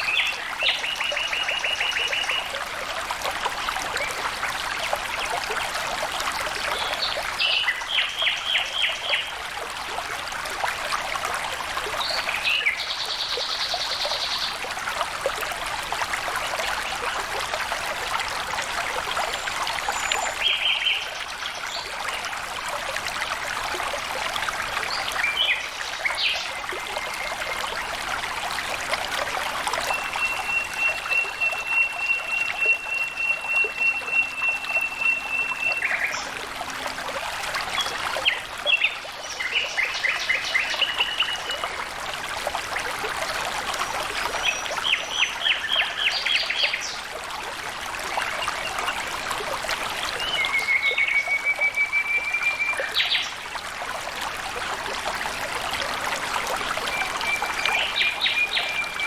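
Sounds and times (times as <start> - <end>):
stream water trickling: 0.0 - 59.0.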